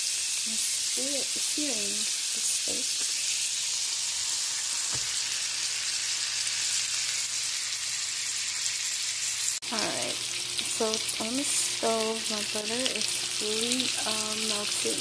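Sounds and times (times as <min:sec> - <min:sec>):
steak sizzling in a frying pan: 0:00.0 - 0:15.0.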